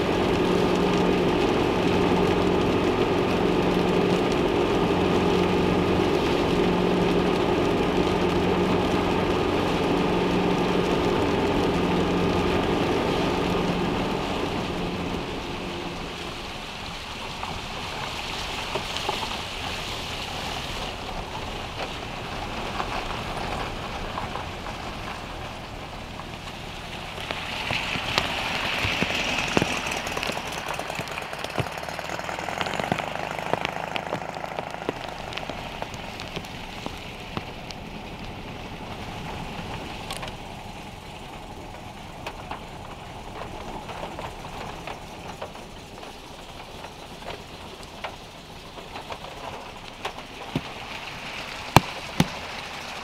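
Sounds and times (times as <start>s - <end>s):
car engine idling: 0.0s - 19.7s, 20.8s - 53.0s
rain falling on car and ground: 0.0s - 53.0s
raindrops ticking on car: 0.0s - 53.0s.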